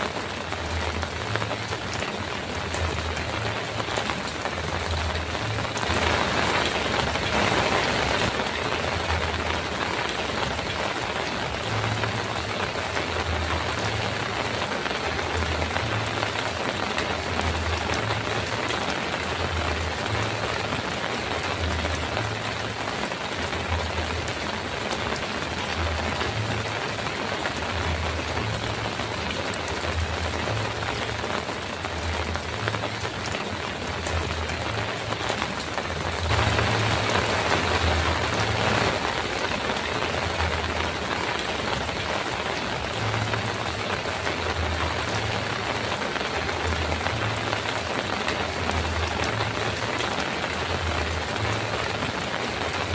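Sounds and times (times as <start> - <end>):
heavy rain on a metal roof: 0.0 - 52.9.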